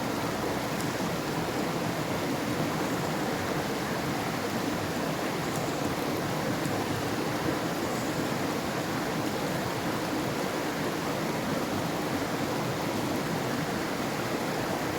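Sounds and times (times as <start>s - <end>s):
river water rushing: 0.0s - 14.9s.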